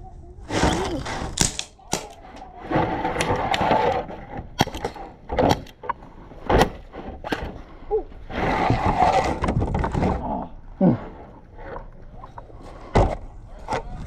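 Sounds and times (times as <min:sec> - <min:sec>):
rustling movement: 0:00.4 - 0:14.0.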